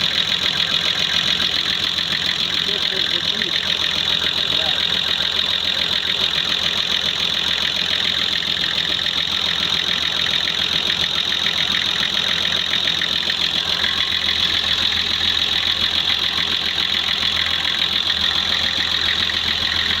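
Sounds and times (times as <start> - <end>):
car engine idling with ticking: 0.0 - 20.0.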